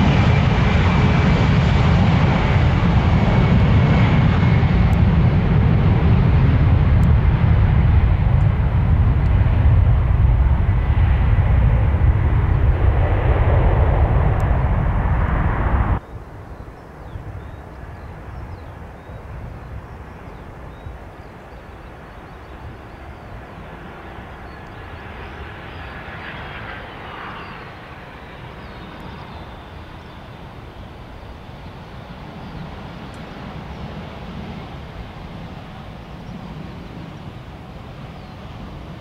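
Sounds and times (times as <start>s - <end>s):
airplane engines rumbling: 0.0s - 39.0s.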